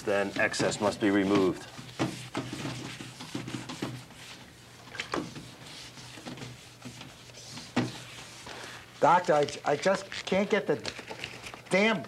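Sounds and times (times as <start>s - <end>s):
cloth rubbing on wood: 0.0s - 10.6s.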